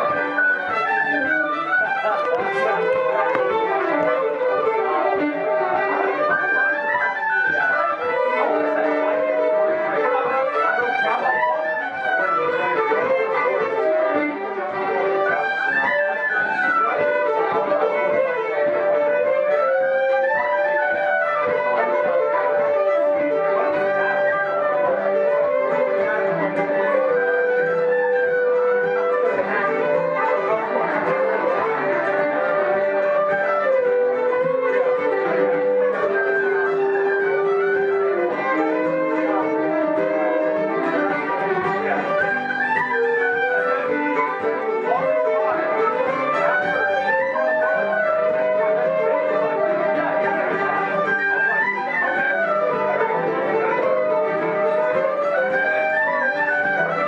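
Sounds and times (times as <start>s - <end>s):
fiddles and folk instruments playing: 0.0s - 57.0s.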